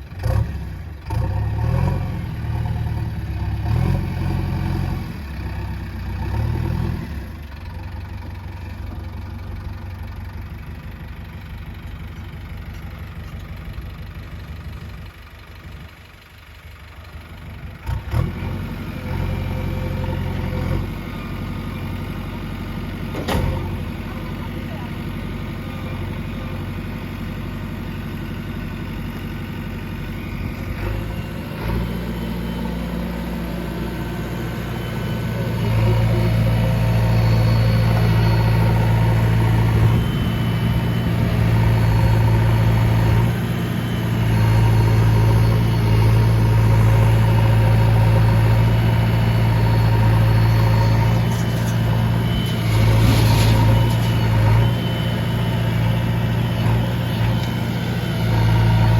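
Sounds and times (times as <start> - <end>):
heavy diesel engine running: 0.0 - 58.9.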